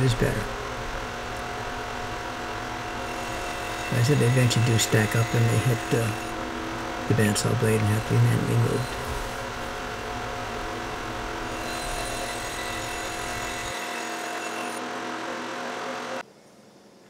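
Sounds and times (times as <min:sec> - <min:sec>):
band saw running: 0:00.0 - 0:16.2.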